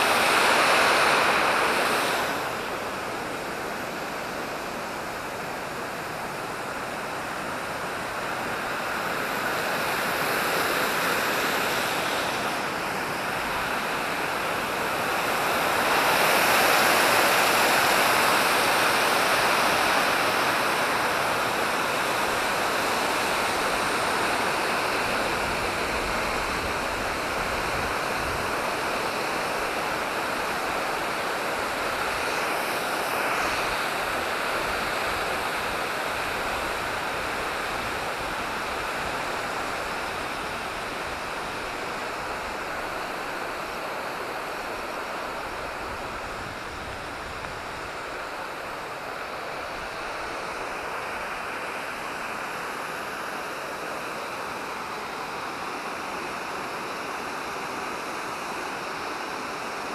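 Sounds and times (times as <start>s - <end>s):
water rushing down spillway: 0.0s - 59.9s.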